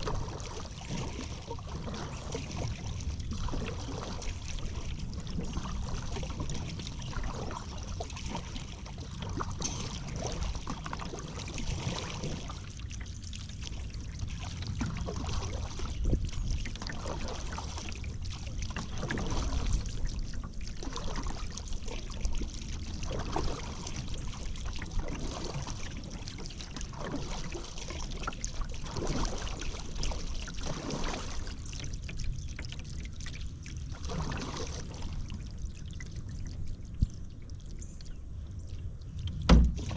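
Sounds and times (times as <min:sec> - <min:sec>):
paddle splashing in river water: 0:00.0 - 0:36.9, 0:37.7 - 0:39.9
water dripping off paddle: 0:00.0 - 0:39.9.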